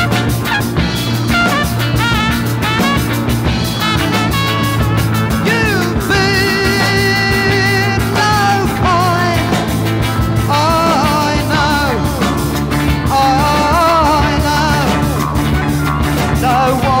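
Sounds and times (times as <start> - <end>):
live rock band music: 0.0 - 17.0.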